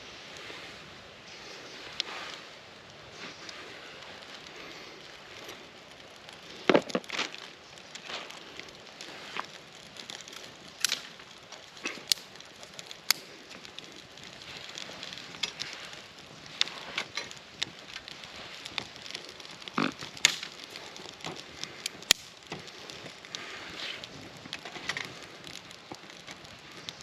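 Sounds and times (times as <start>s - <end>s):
fire hissing: 0.0s - 27.0s
wood fire crackling and popping: 0.0s - 27.0s.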